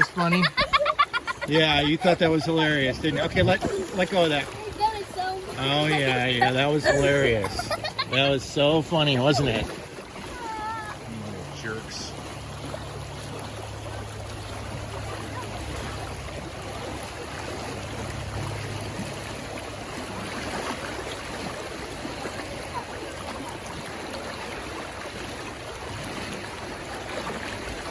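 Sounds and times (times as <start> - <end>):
river water babbling: 0.0 - 27.9.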